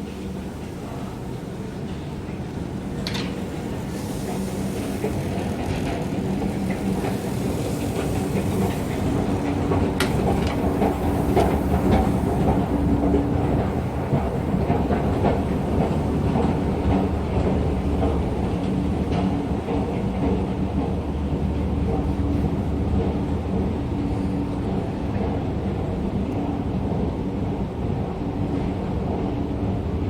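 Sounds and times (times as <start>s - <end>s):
rail clicks: 0.0s - 29.6s
train rumbling on rails: 0.0s - 30.0s.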